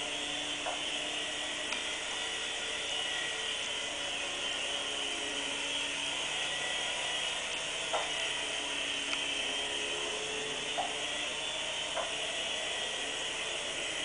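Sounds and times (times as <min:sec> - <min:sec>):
toy helicopter rotors whirring: 0:00.0 - 0:14.0.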